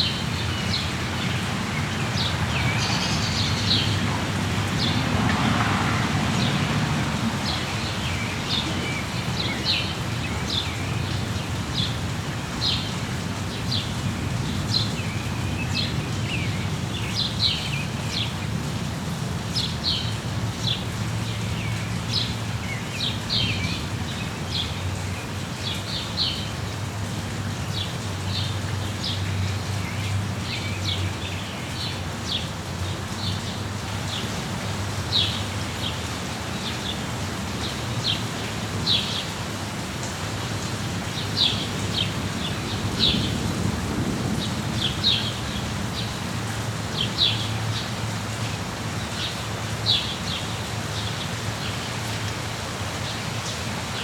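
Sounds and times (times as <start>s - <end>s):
songbirds chirping: 0.0s - 18.7s, 19.3s - 54.0s
steady rain hiss: 0.0s - 54.0s.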